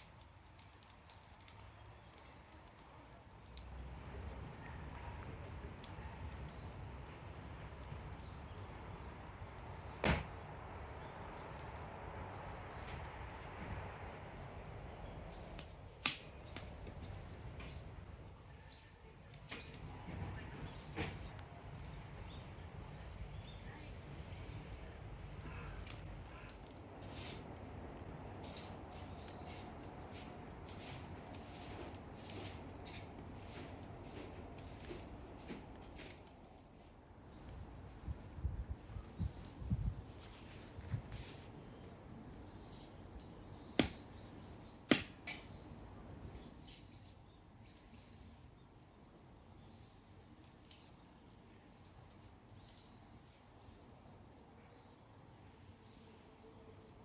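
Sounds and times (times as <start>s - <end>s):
wood fire crackling and rumbling: 0.0s - 57.0s.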